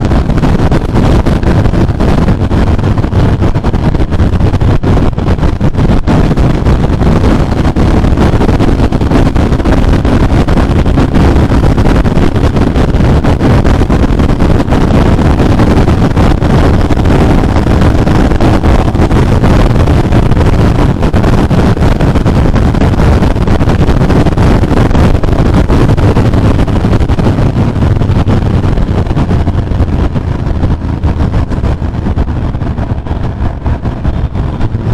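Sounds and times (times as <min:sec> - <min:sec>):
motorcycle engine and exhaust: 0:00.0 - 0:34.9
wind rushing over microphone: 0:00.0 - 0:34.9.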